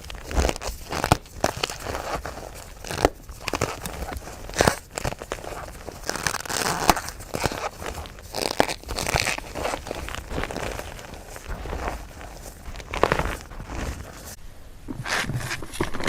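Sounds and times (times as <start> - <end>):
chalk crumbling and crunching: 0.0 - 14.4.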